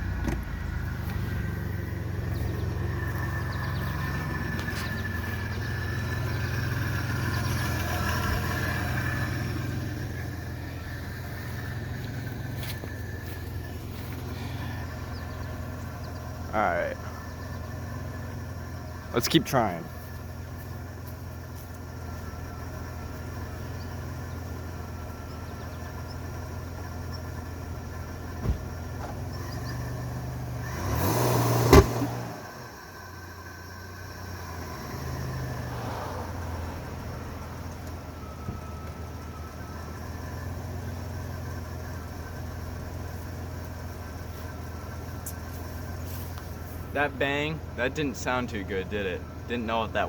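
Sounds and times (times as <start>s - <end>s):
car engine running at low revs: 0.0s - 50.0s.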